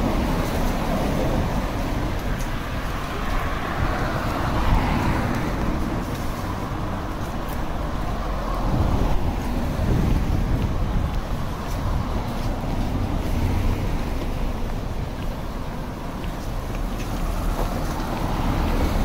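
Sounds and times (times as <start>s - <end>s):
city street traffic: 0.0s - 19.0s
vehicle passing: 0.0s - 19.0s.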